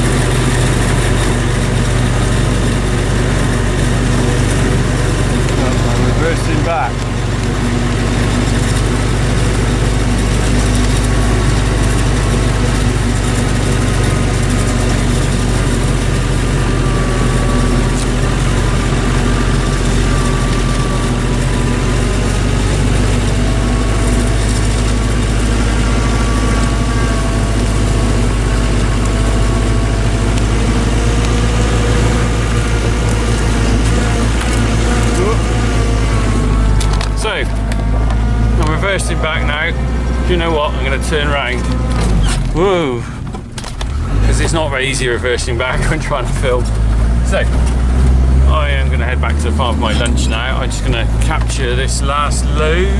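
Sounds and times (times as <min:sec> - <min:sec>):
diesel engines droning: 0:00.0 - 0:52.9
faint whines: 0:00.0 - 0:52.9.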